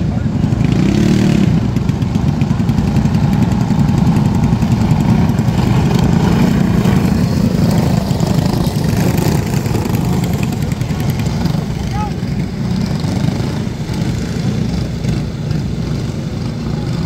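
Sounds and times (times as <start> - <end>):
go-kart engines racing: 0.0 - 17.0.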